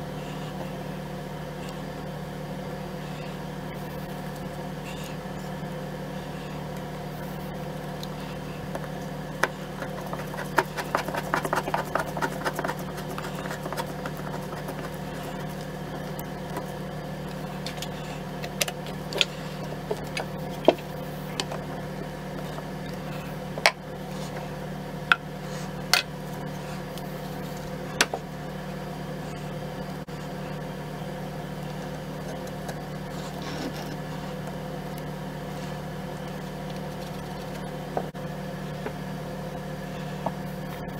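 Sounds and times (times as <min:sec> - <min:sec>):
steady hum: 0:00.0 - 0:40.9.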